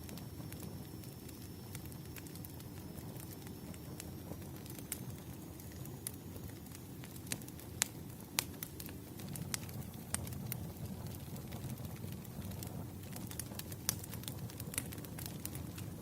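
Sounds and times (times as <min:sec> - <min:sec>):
fire crackling and popping: 0:00.0 - 0:16.0
flames rumbling: 0:00.0 - 0:16.0.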